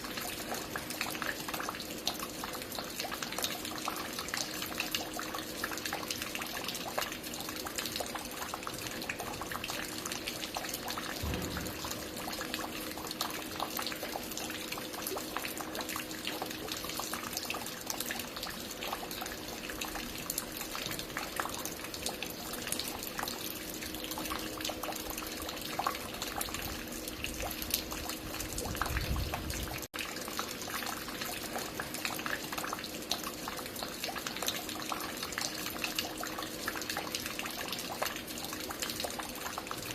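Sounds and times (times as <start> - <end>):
water dripping and splashing: 0.0 - 39.9.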